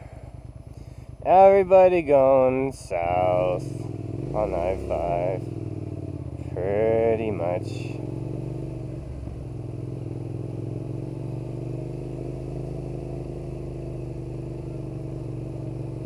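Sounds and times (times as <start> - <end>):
motorcycle engine idling unevenly: 0.0 - 16.0.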